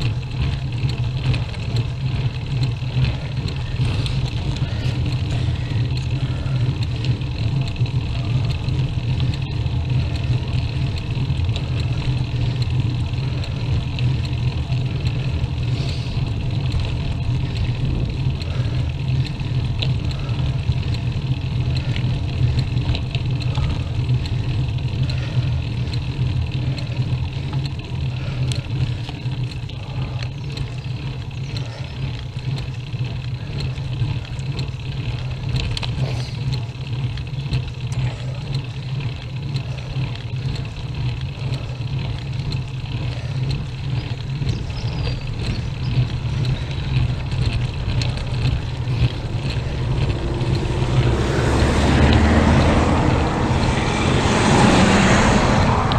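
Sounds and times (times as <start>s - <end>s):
bicycle road and drivetrain noise: 0.0s - 55.9s.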